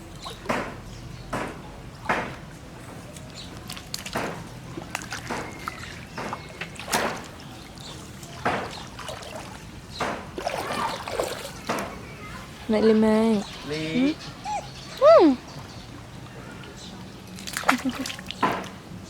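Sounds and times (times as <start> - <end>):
floodwater splashing and sloshing: 0.0 - 19.0.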